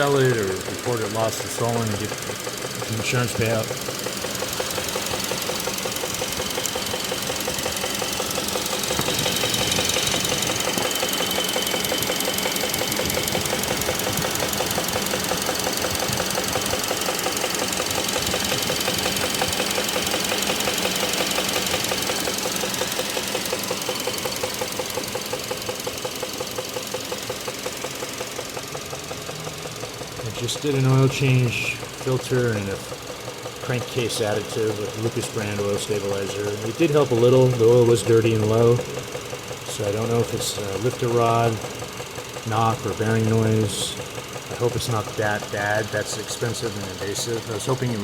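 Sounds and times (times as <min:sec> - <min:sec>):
engine idling with rapid knock: 0:00.0 - 0:48.0.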